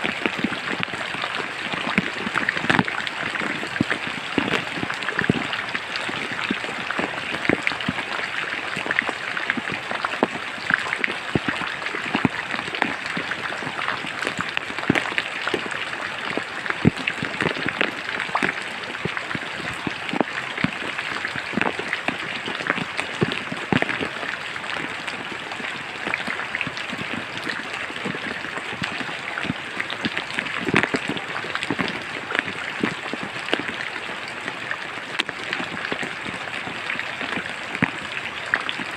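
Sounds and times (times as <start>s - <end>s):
rain hiss: 0.0s - 38.9s
raindrops striking close by: 0.0s - 38.9s.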